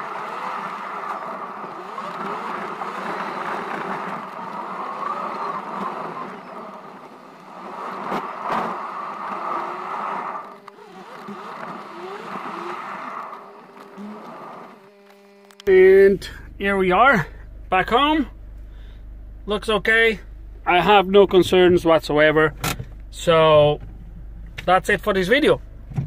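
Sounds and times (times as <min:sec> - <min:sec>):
diesel engine in car cabin: 0:00.0 - 0:26.0.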